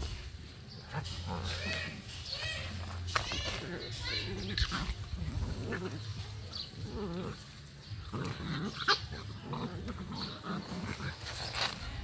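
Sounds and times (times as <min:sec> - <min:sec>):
puppies whining and growling: 0:00.8 - 0:11.8.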